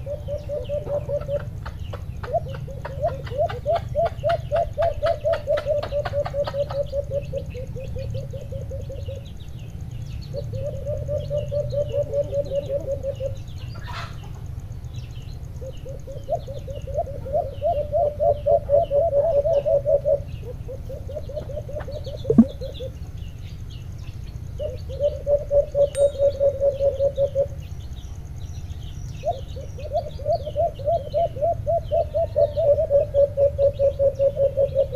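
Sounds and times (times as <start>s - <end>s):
doves cooing: 0.0s - 9.4s, 10.3s - 14.2s, 15.6s - 22.8s, 24.6s - 27.7s, 29.2s - 34.9s
small birds chirping: 0.0s - 34.9s.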